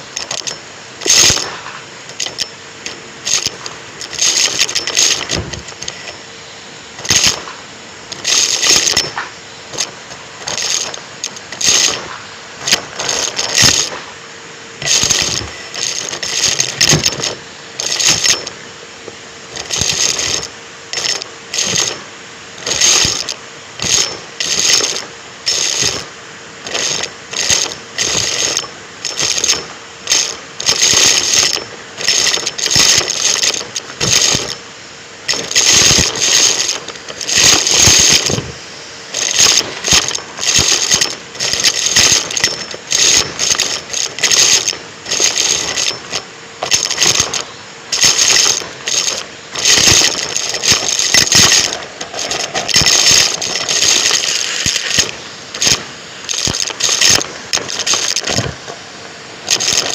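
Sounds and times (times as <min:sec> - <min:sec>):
debris crackling and rattling: 0:00.0 - 0:06.3, 0:06.9 - 0:14.2, 0:14.8 - 0:59.9
vacuum cleaner humming: 0:00.0 - 0:59.9.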